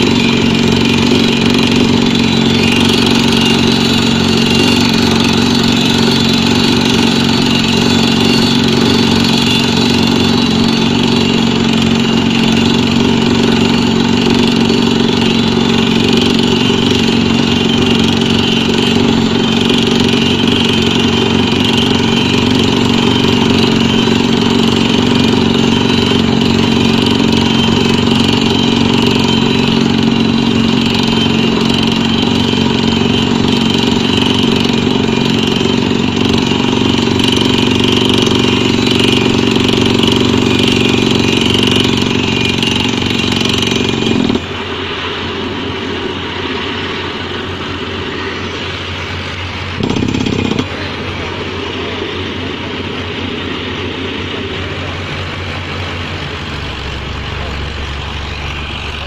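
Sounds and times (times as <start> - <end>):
drilling rig machinery drone: 0.0 - 59.0
quieter machine running: 0.0 - 59.0.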